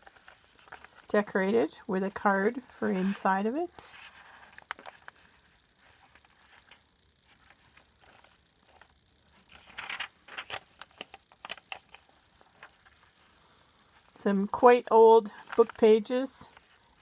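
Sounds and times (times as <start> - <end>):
paper rustling and crinkling: 0.0 - 1.3, 2.8 - 14.2, 15.3 - 17.0.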